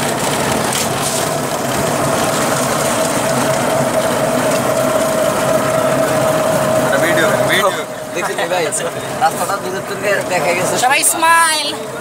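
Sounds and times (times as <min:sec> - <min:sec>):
steady whine: 0:00.0 - 0:12.0
vehicle engine and body rattle: 0:00.0 - 0:12.0.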